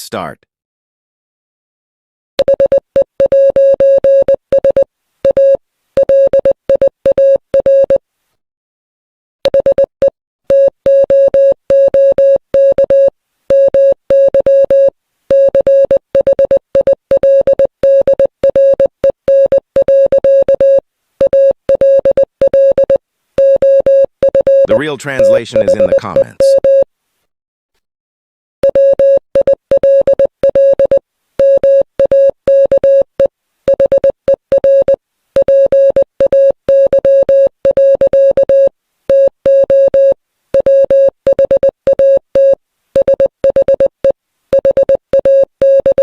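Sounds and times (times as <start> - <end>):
morse code beeps: 2.4 - 8.0, 9.5 - 26.8, 28.6 - 33.1, 33.7 - 46.0.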